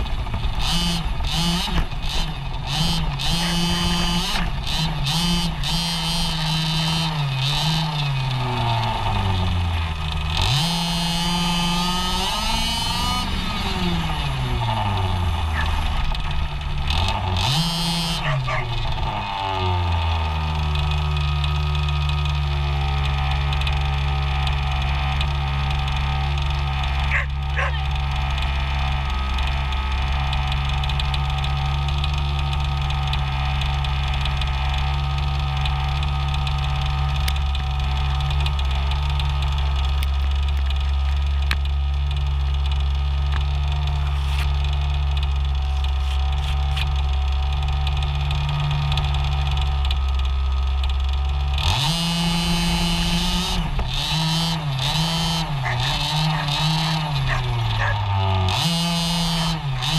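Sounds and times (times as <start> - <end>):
small two-stroke engine idling and revving: 0.0 - 59.9.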